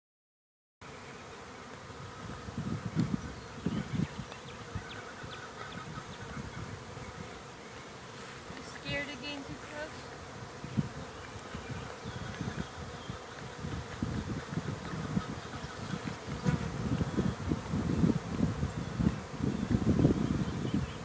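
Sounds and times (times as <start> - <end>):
honeybees buzzing: 0.8 - 21.0.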